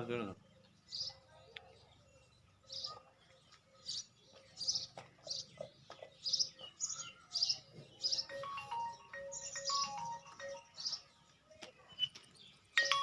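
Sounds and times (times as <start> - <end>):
small bird chirping: 0.3 - 13.0.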